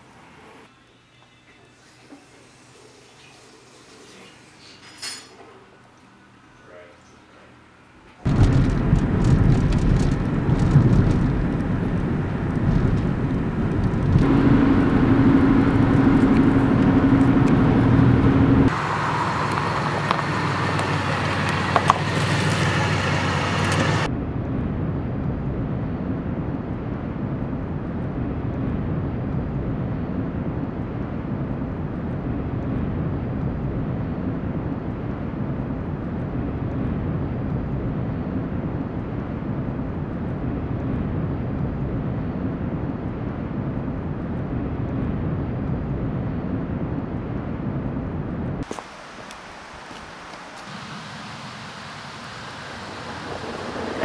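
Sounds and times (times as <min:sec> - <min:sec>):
steady outdoor rumble: 0:06.4 - 0:54.0
car engine and road noise: 0:08.2 - 0:54.0.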